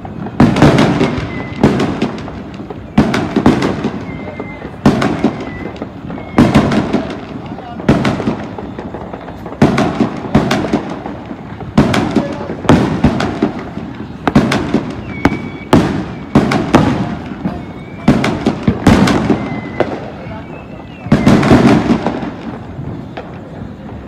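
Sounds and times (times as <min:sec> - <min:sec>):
fireworks bangs with echo: 0:00.0 - 0:24.0.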